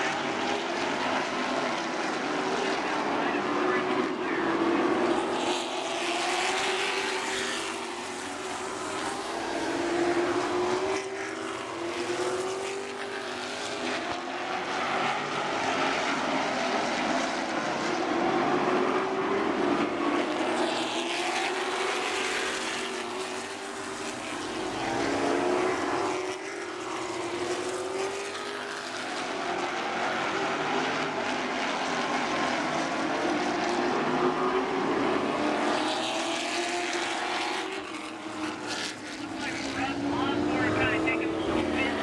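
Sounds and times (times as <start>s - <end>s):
race car engines passing: 0.0s - 42.0s.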